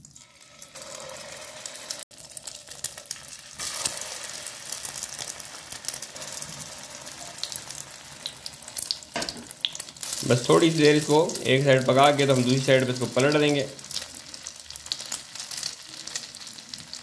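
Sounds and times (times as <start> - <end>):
kebabs sizzling in oil: 0.0 - 17.0.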